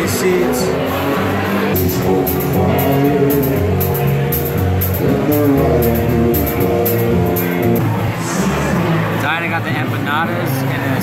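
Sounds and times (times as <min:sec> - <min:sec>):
live band playing: 0:00.0 - 0:10.7
bass line: 0:00.0 - 0:11.0.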